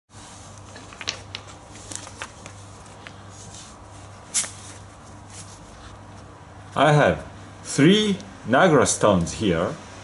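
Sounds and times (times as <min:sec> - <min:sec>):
steady low hum: 0:00.1 - 0:10.0.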